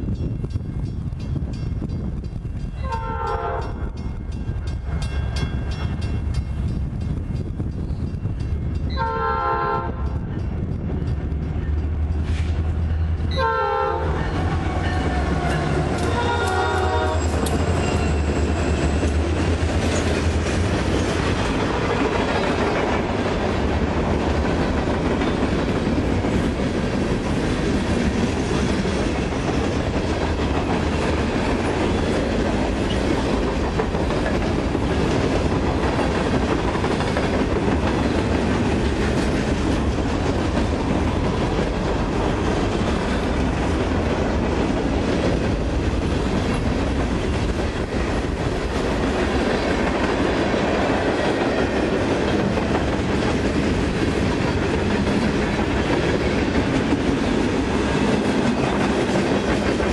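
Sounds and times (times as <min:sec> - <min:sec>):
freight cars rumbling: 0:10.0 - 0:59.9.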